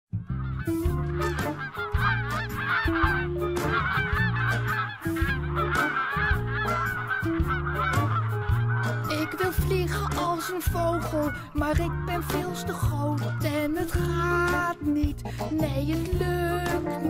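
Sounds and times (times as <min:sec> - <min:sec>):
instrumental song intro: 0:00.2 - 0:17.0
birds honking: 0:00.3 - 0:17.0.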